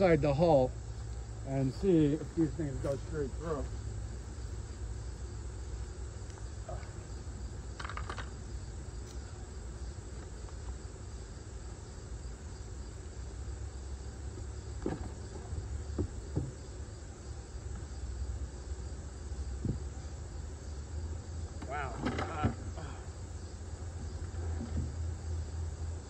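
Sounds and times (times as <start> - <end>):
insects: 0.0 - 26.0
low steady rumble: 0.0 - 26.0.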